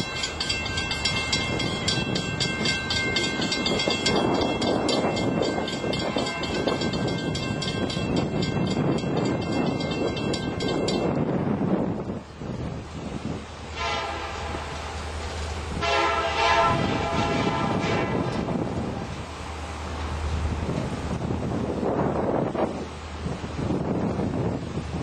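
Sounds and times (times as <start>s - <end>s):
rhythmic clicking of train wheels: 0.0s - 22.7s
train rumble: 0.0s - 25.0s.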